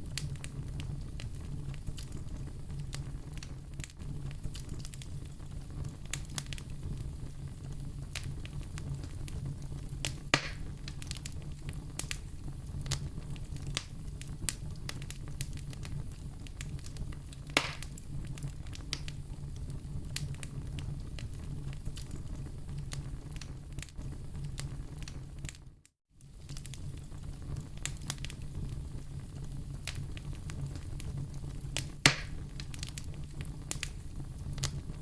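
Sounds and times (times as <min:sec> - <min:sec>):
loud fire pops: 0:00.0 - 0:25.6, 0:26.2 - 0:35.0
wood fire crackling: 0:00.0 - 0:35.0.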